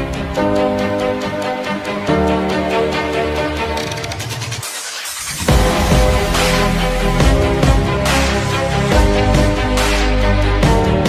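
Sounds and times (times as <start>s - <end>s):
electronic music with synth chords: 0.0s - 11.0s.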